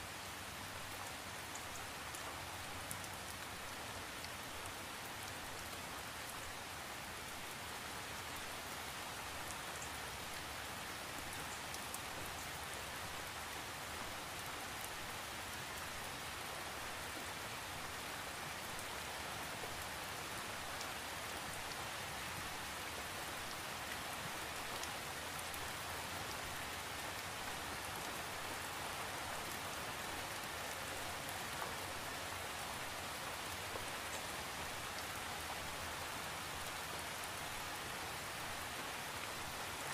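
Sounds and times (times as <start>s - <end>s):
steady rain hiss: 0.0s - 39.9s
faint raindrop ticks: 0.4s - 6.5s, 7.2s - 39.9s.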